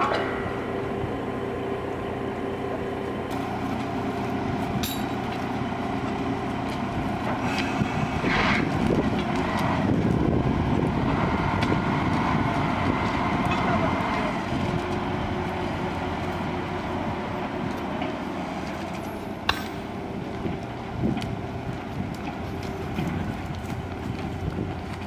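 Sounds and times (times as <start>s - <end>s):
rail motor car engine running: 0.0s - 25.0s.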